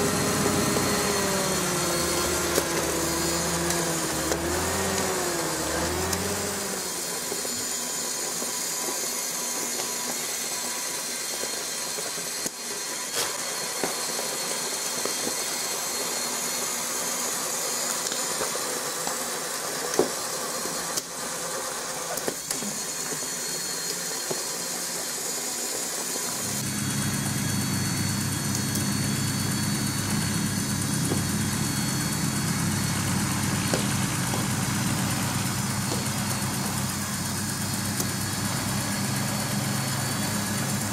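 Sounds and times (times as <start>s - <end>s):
model motor whirring: 0.0s - 40.9s.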